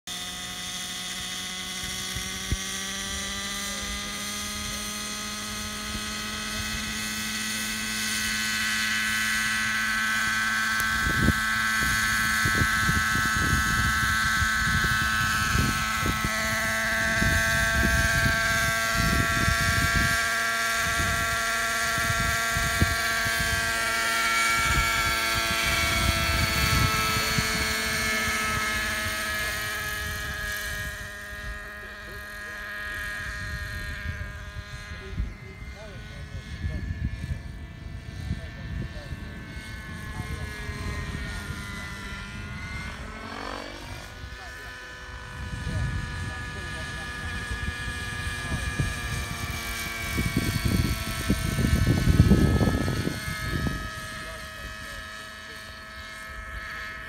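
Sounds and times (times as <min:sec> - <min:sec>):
model helicopter engine buzzing: 0:00.0 - 0:57.0
wind buffeting microphone: 0:01.8 - 0:32.2, 0:32.9 - 0:43.2, 0:43.8 - 0:57.0.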